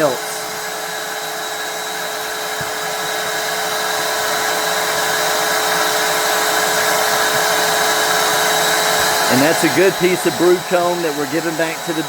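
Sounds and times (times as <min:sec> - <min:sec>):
vacuum motor whining: 0:00.0 - 0:12.0.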